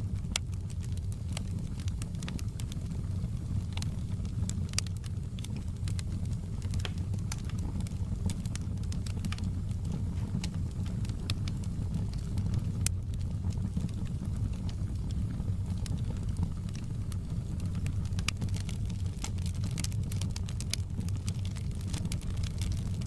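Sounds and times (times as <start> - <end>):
fire crackling and popping: 0.0 - 23.0
wood fire burning: 0.0 - 23.0.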